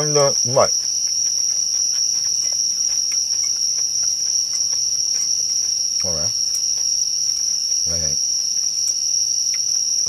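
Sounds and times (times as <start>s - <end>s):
night insects trilling: 0.0s - 10.0s.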